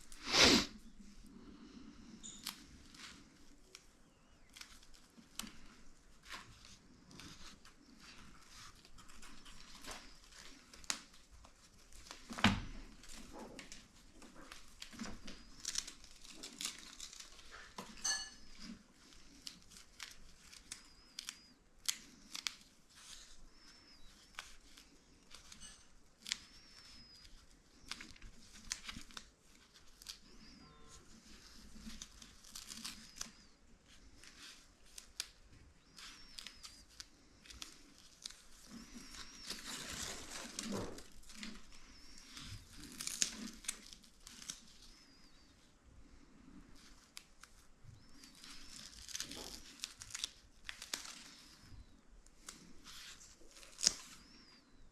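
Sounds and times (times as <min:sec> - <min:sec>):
crinkling and tearing materials: 0:00.0 - 0:54.9.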